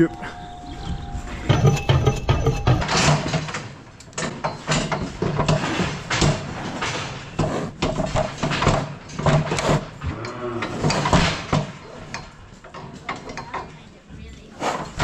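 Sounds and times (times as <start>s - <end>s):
metal cattle crush clanking: 0.0s - 13.9s.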